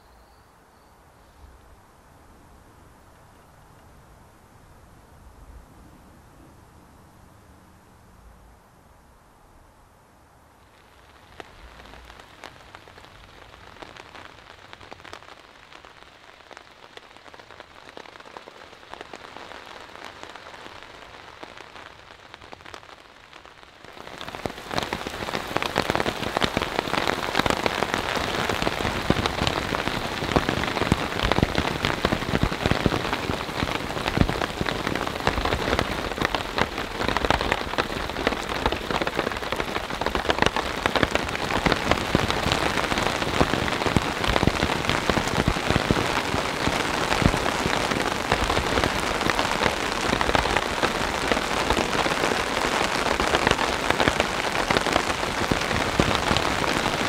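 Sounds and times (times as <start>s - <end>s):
rain pattering on tent fabric: 10.5s - 57.0s.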